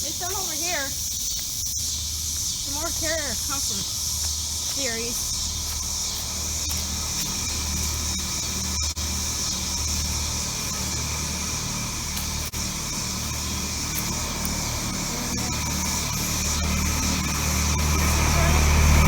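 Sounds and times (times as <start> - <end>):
heat pump units humming: 0.0 - 19.0.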